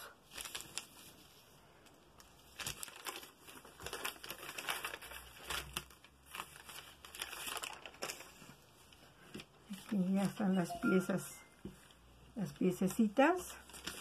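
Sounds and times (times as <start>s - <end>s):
paper rustling and crinkling: 0.0s - 10.7s, 11.6s - 14.0s.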